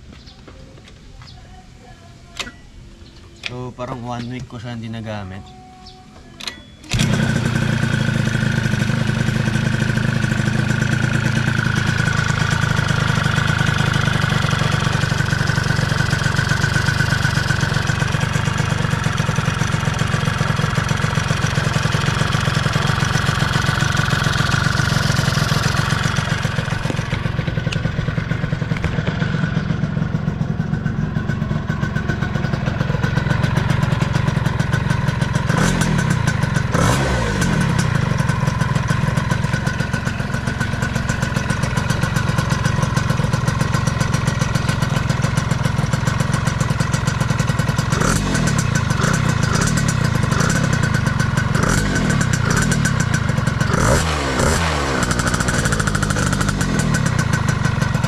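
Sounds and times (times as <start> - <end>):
scooter engine idling: 0.0 - 58.0
scooter engine revving: 6.8 - 58.0.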